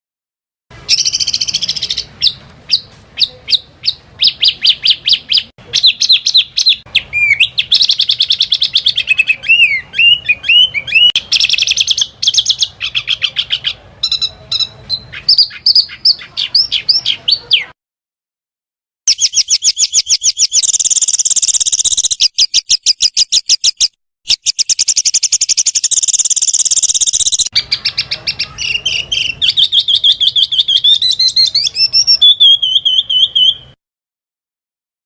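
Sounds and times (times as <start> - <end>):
songbird singing: 0.7 - 17.8, 19.1 - 33.8.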